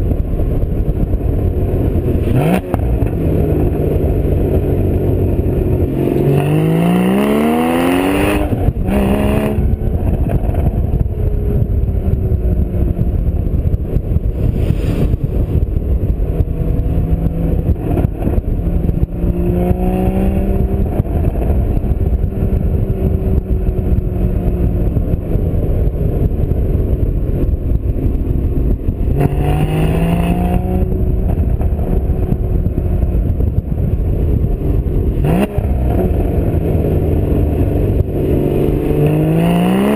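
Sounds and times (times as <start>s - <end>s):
car engine accelerating: 0.0s - 39.9s
wind and road noise: 0.0s - 39.9s.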